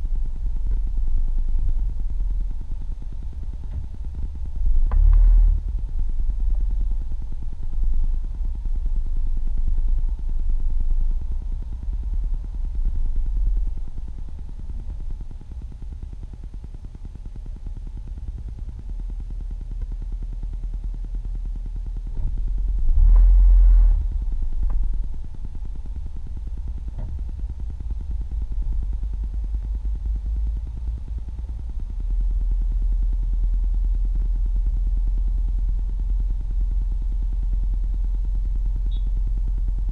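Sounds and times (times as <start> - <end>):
car engine and tyres rumble inside cabin: 0.0 - 39.9.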